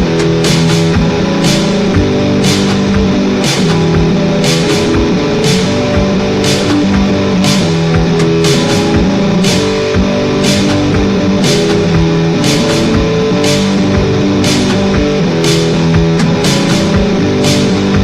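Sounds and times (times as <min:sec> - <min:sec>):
electronic industrial music: 0:00.0 - 0:18.0
noisy crash-like hits: 0:00.0 - 0:18.0
sustained low synth tones: 0:00.0 - 0:18.0.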